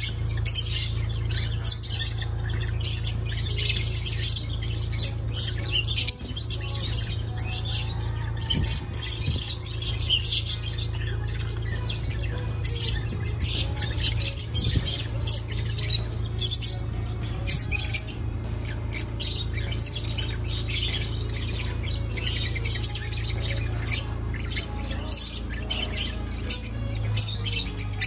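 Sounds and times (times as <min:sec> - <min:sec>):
lovebirds chirping and squawking: 0:00.0 - 0:28.0
steady low hum: 0:00.0 - 0:28.0.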